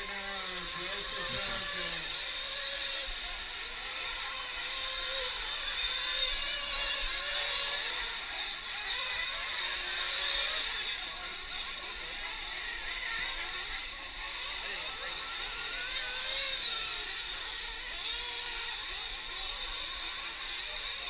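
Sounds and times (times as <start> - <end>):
rc truck engines whining: 0.0 - 21.0.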